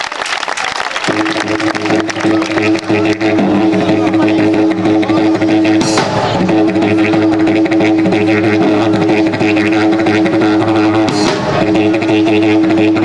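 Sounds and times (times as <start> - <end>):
street band playing a droning note: 1.0 - 13.0
drums: 1.1 - 13.0.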